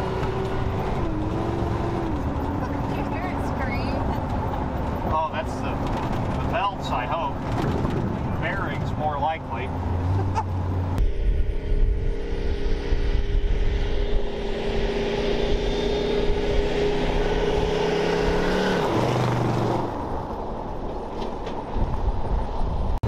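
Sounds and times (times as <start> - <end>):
truck engine driving past: 0.0 - 20.8.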